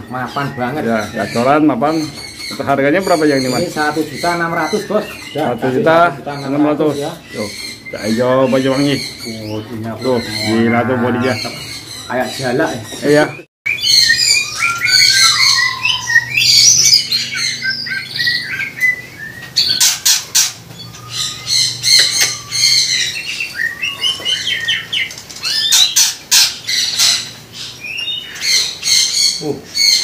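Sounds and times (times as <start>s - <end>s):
bird singing whistles and chirps: 0.0s - 20.1s, 20.7s - 30.0s.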